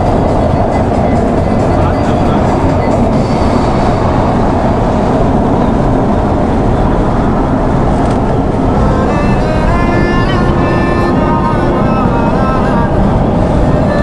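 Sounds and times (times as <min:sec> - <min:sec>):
car road noise: 0:00.0 - 0:14.0.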